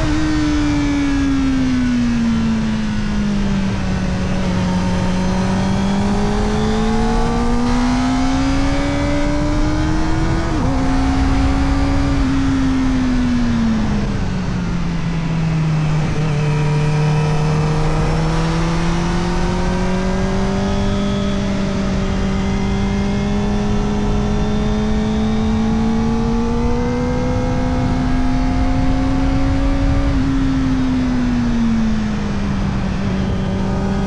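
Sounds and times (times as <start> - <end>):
motorcycle engine revving: 0.0 - 34.0
wind and road noise: 0.0 - 34.0.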